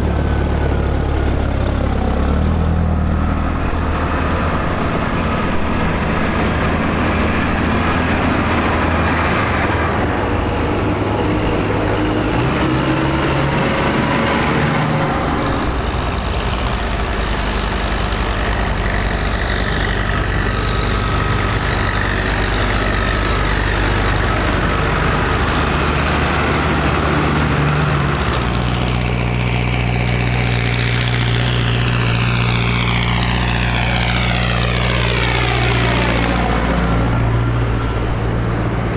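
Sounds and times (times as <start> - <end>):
diesel tractors driving past: 0.0 - 38.9.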